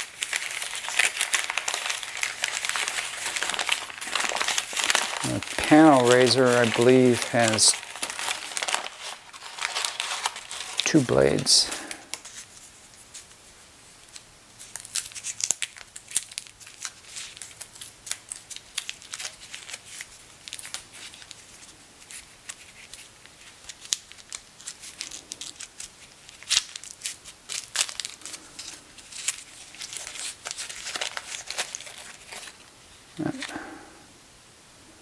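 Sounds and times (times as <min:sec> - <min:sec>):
tape being peeled and torn: 0:00.0 - 0:13.4, 0:14.0 - 0:33.6
thin paper crinkling: 0:00.0 - 0:33.7.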